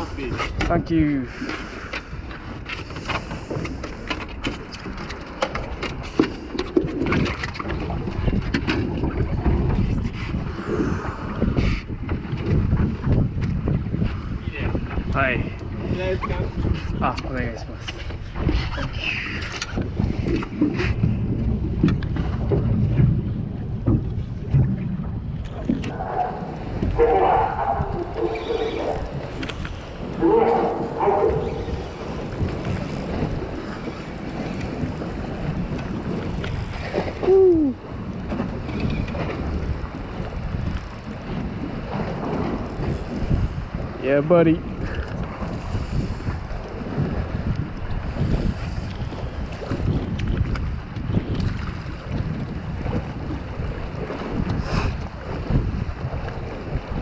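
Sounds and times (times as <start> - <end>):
choppy water: 0.0 - 57.0
wind buffeting microphone: 0.0 - 57.0.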